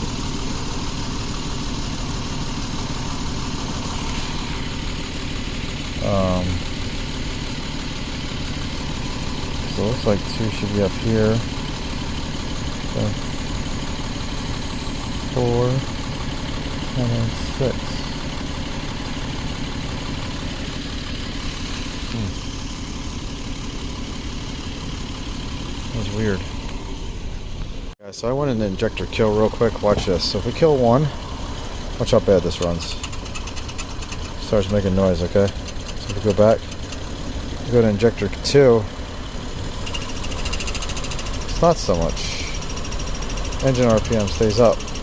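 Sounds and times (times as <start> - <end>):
car engine idling with misfire: 0.0 - 45.0.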